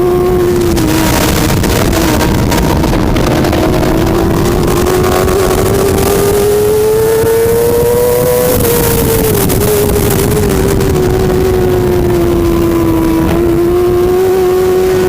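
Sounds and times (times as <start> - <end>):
heavy wind noise: 0.0 - 15.0
motorcycle engine revving high: 0.0 - 15.0.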